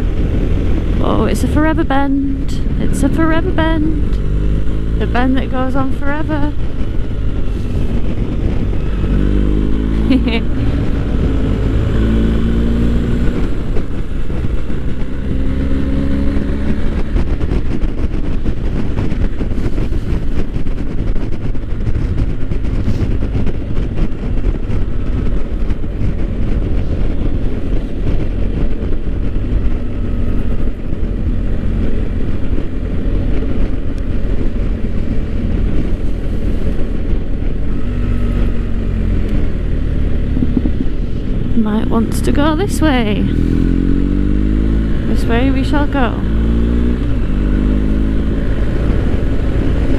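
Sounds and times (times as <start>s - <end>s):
motorcycle engine drone: 0.0s - 49.9s
wind rush: 0.0s - 49.9s.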